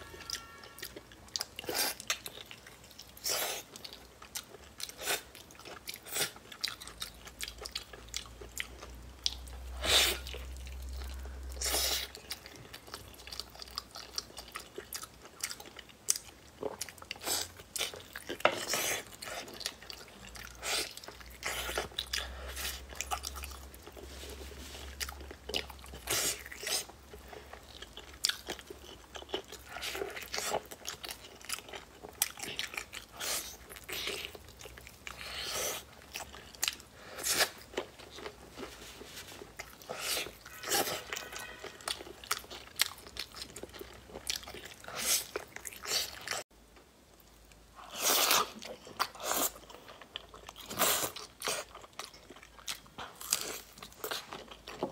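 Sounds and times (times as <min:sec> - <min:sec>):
person chewing food: 0:00.0 - 0:46.5, 0:47.1 - 0:54.9.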